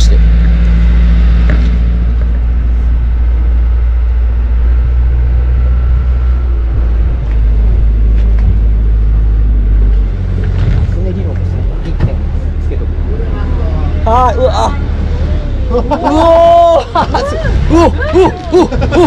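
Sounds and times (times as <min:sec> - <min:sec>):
boat engine drone: 0:00.0 - 0:19.0
steady rushing noise: 0:00.0 - 0:19.0.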